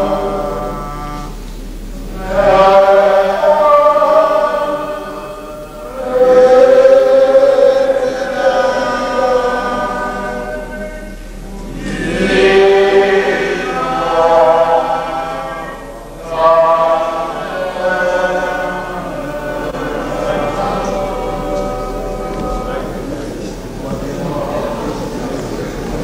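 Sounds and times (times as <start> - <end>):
group chanting a hymn: 0.0 - 26.0.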